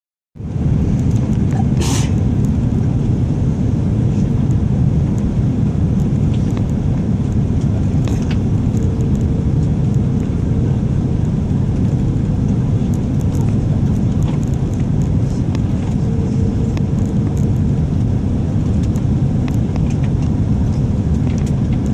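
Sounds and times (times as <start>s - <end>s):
airliner engines rumbling: 0.4s - 21.9s.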